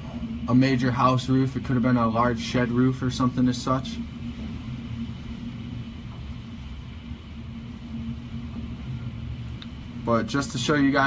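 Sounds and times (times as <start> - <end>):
constant low hum: 0.0 - 11.0
strong wind low rumble: 0.0 - 11.0.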